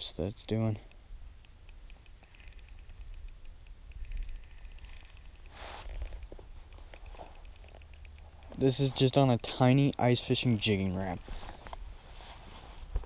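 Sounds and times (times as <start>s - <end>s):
fishing reel ticking: 0.8s - 11.8s.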